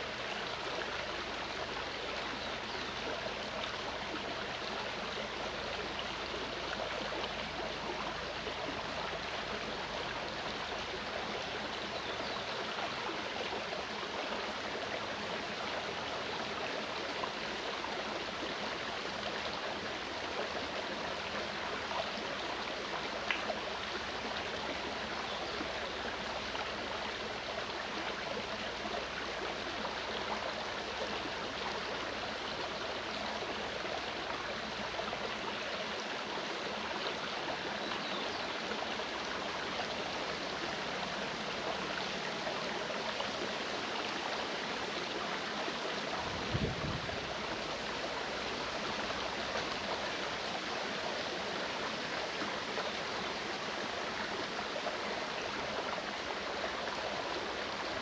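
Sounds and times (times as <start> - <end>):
stream rushing and gurgling: 0.0 - 58.0.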